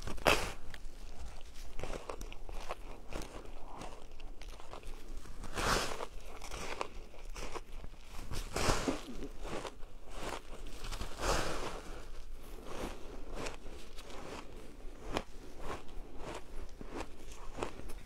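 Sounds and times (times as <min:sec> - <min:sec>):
crunching shaved ice: 0:00.0 - 0:18.0.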